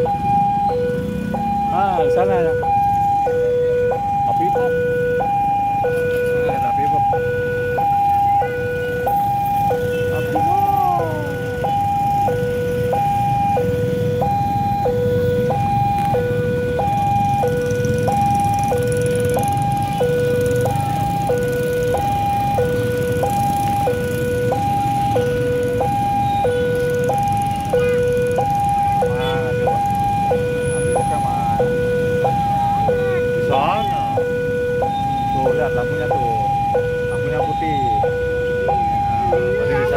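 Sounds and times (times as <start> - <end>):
motorcycles idling: 0.0 - 39.9
two-tone crossing alarm: 0.0 - 39.9.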